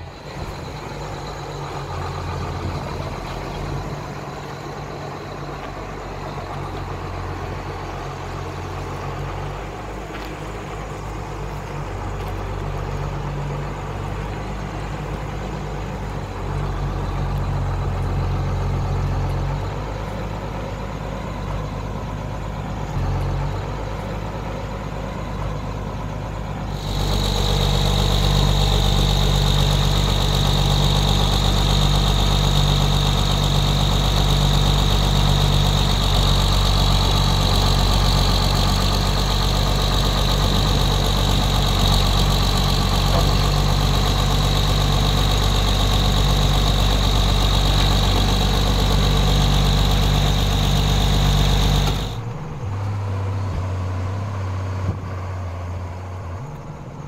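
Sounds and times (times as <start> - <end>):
high steady whine: 0.0 - 52.3
crane engine idling: 0.0 - 57.0.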